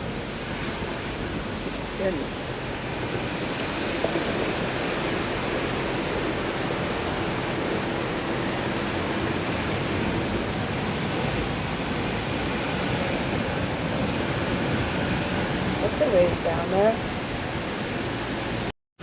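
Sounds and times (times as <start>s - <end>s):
road and wind noise in car: 0.0s - 18.7s.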